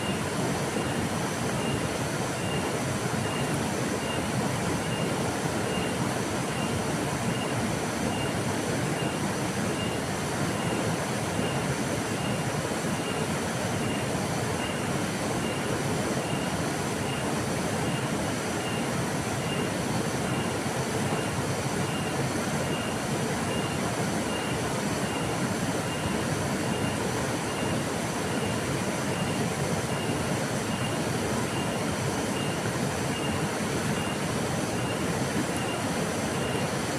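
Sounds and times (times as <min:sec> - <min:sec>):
river flowing: 0:00.0 - 0:36.9.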